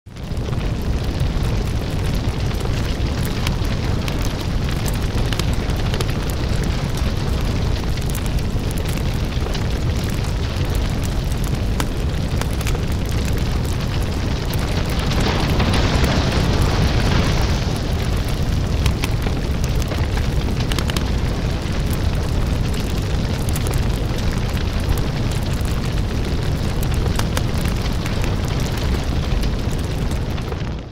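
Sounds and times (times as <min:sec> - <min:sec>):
house fire roaring and crackling: 0:00.1 - 0:30.9.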